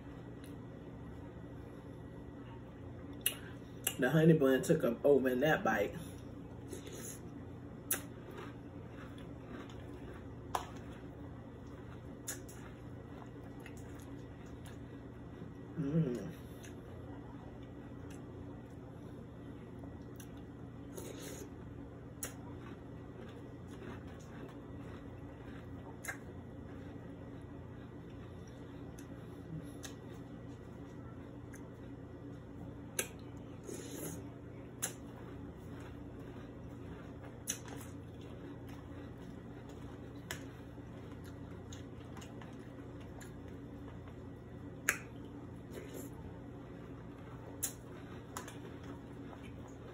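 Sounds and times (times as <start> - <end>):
low room hum: 0.0 - 49.9
chewing crunchy cereal: 5.8 - 49.9.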